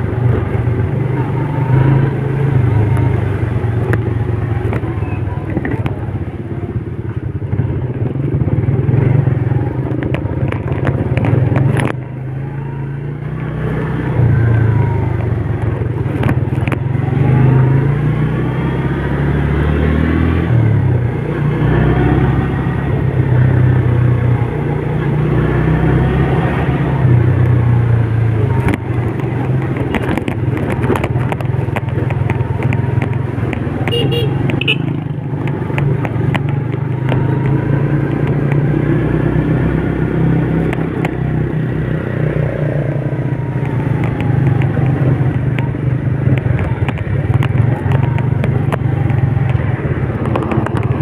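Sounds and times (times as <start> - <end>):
car engines drone: 0.0 - 51.0
motorcycle engine: 0.0 - 51.0.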